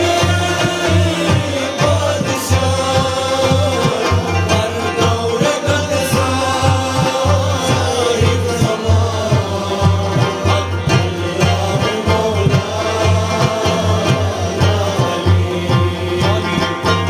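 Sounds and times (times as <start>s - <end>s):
frame drum beat: 0.0s - 17.0s
man singing: 0.0s - 17.0s
plucked lute: 0.0s - 17.0s.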